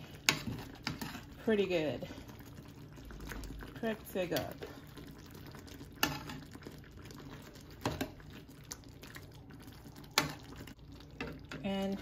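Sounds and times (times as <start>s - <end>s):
gravy simmering: 0.0s - 12.0s.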